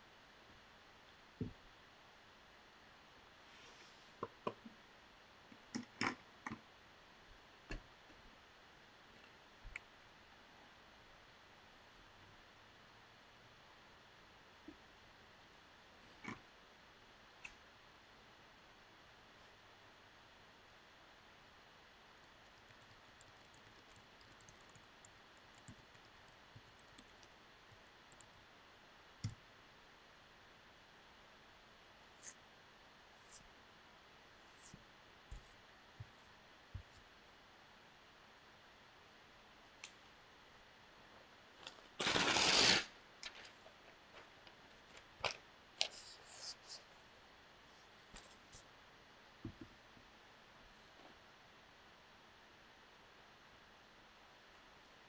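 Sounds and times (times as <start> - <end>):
low room hiss: 0.0 - 55.0.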